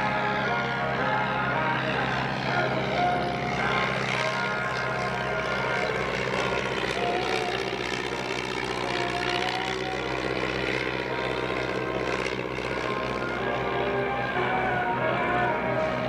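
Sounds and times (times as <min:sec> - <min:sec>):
propeller aircraft engine: 0:00.0 - 0:16.0.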